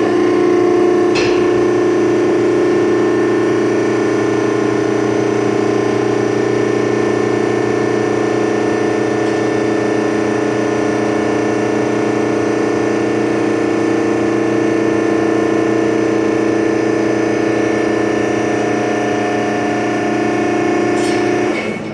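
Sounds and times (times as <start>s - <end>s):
baler motor humming: 0.0s - 21.9s.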